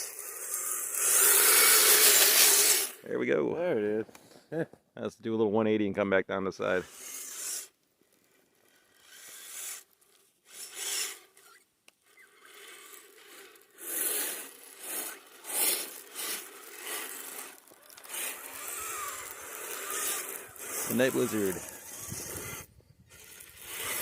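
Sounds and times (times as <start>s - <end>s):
faint electric motor whine: 0.0s - 3.0s, 6.6s - 24.0s.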